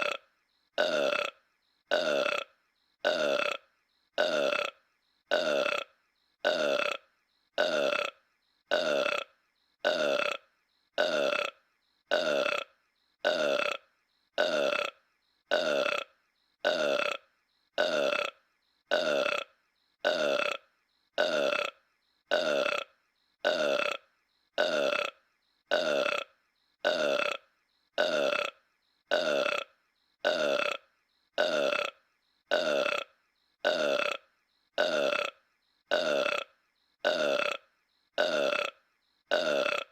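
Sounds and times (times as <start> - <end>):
cartoon burp: 0.0 - 39.9.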